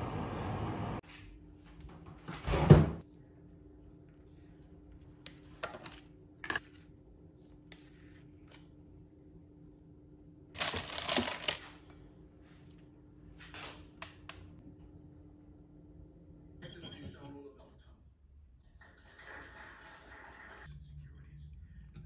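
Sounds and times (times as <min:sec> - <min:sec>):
low appliance hum: 0:00.0 - 0:19.0.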